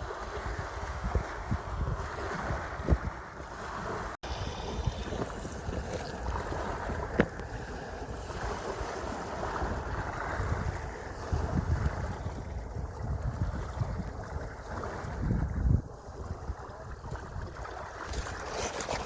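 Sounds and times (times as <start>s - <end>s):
sea waves washing: 0.0s - 19.0s
wind gusting on microphone: 0.0s - 19.0s.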